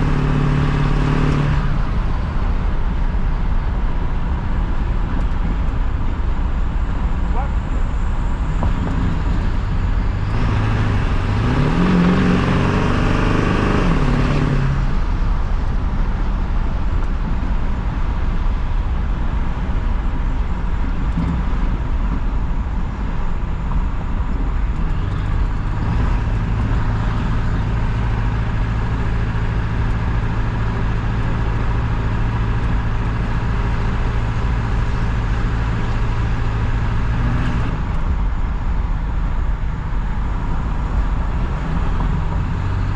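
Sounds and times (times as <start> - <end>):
diesel truck engine driving: 0.0 - 42.9.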